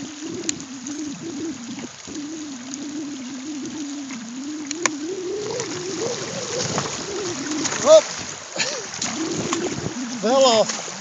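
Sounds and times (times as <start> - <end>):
creek trickling and gurgling: 0.0 - 11.0.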